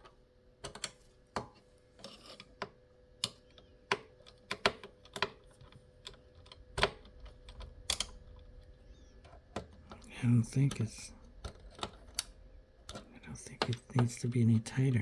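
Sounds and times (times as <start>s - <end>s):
computer parts clicking and tapping: 0.0s - 14.4s.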